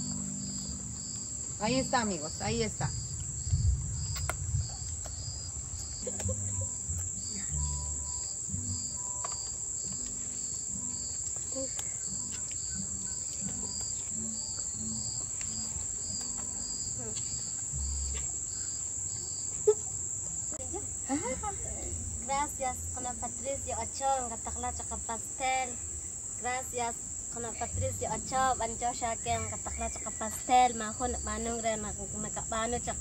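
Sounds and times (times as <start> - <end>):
insect chirping: 0.0 - 33.0
insects trilling: 0.0 - 33.0.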